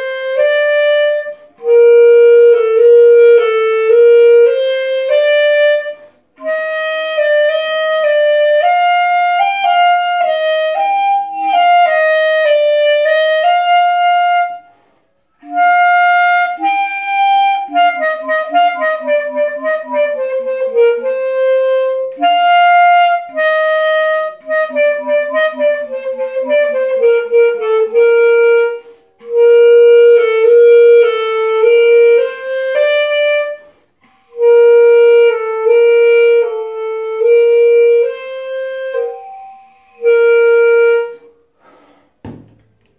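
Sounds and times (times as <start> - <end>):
solo clarinet playing: 0.0 - 42.2.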